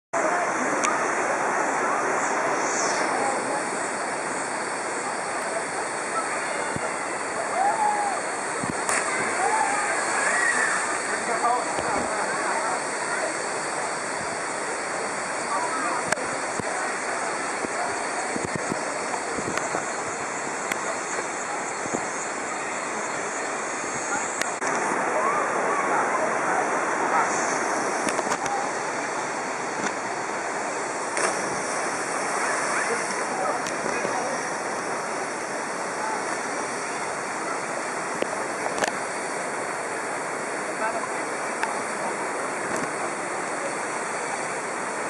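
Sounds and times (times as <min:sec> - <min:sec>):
small waterfall rushing: 0:00.2 - 0:45.0.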